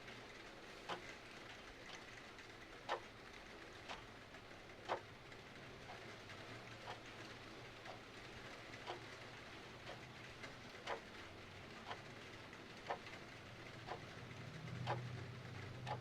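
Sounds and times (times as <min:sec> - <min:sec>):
faint clock ticking: 0:00.0 - 0:16.0.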